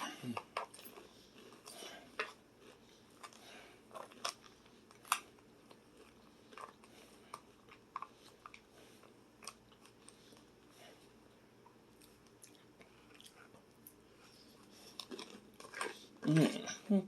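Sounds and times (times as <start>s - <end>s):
chewing crunchy food: 0.0s - 16.8s.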